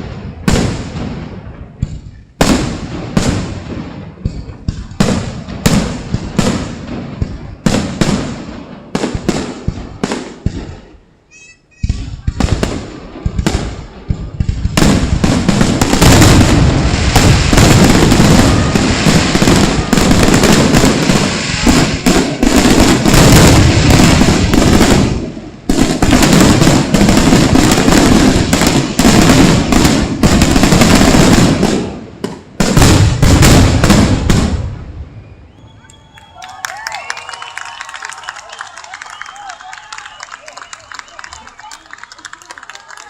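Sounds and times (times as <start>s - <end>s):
fireworks bangs and crackles: 0.0s - 35.5s.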